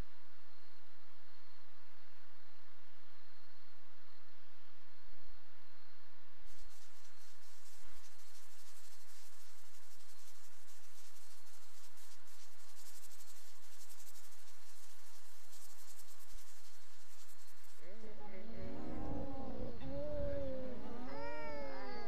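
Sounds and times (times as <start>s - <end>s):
crickets chirping: 0.0s - 22.0s
low electrical hum: 0.0s - 22.0s.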